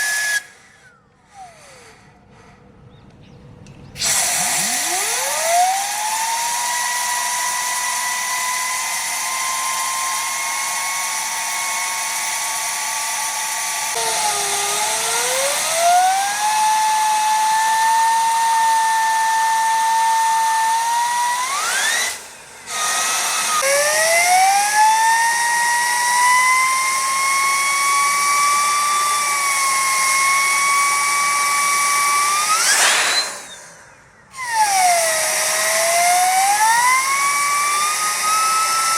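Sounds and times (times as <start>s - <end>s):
turbine whining: 0.0s - 3.0s, 3.6s - 38.9s.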